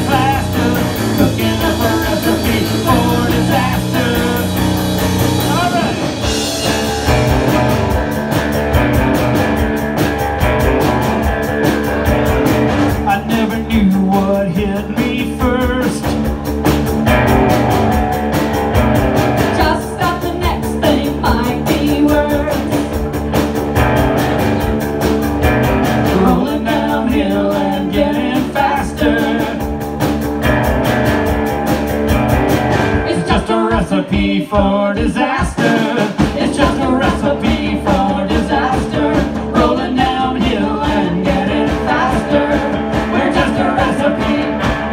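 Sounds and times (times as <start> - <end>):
electric guitar: 0.0 - 34.3, 35.3 - 44.9
drum kit: 0.0 - 44.9.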